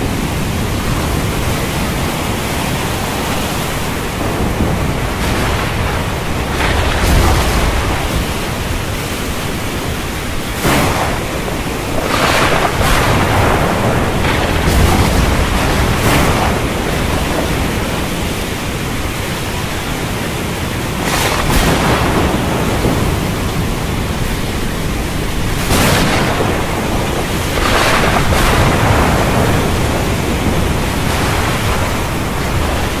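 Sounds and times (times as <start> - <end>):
heavy rain hissing: 0.0 - 33.0
thunder cracking and rumbling: 0.0 - 33.0.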